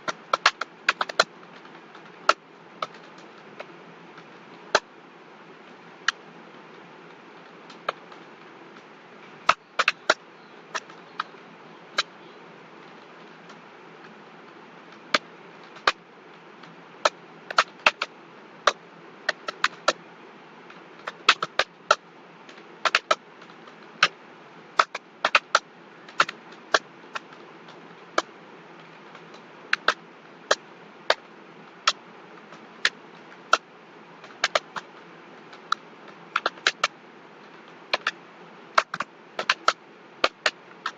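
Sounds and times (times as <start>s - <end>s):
low background hiss: 0.0s - 40.9s.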